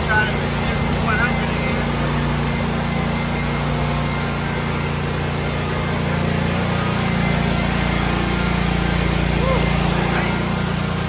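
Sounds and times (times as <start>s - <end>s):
mower engine running: 0.0s - 11.0s.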